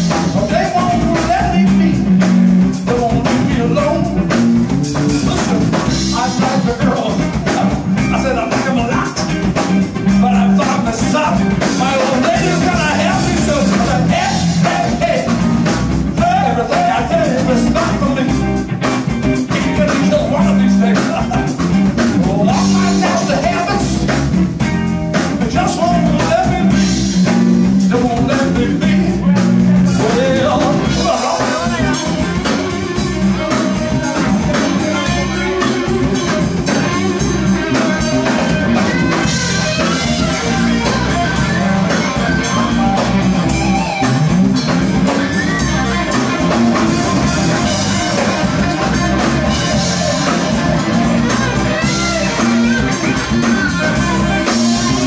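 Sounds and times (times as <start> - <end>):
bass guitar: 0.0 - 55.0
drum kit: 0.0 - 55.0
electric guitar: 0.0 - 55.0
person singing: 0.2 - 4.3, 5.1 - 9.5, 10.1 - 18.6, 19.3 - 24.2, 25.2 - 55.0.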